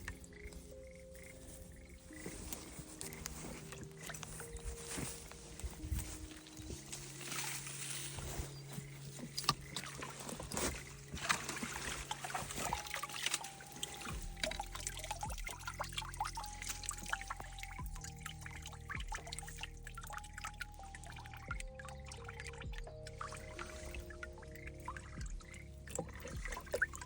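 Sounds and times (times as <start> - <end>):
soft background music: 0.0 - 27.0
water trickling and splashing: 0.0 - 27.0.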